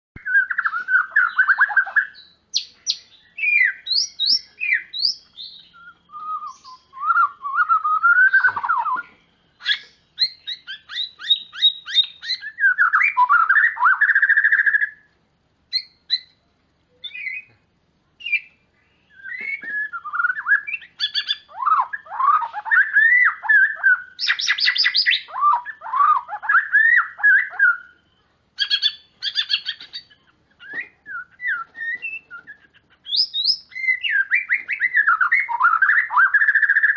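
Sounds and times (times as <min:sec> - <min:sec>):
songbird singing: 0:00.2 - 0:36.9.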